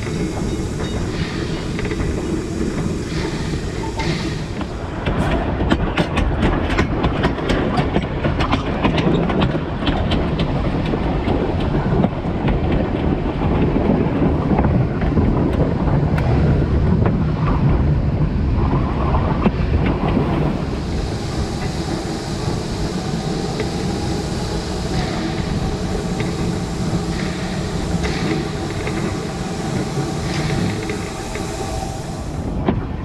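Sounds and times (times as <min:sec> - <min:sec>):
wheels clicking over rail joints: 0:00.0 - 0:17.6, 0:19.4 - 0:32.9
train wheels rumbling on track: 0:00.0 - 0:33.0.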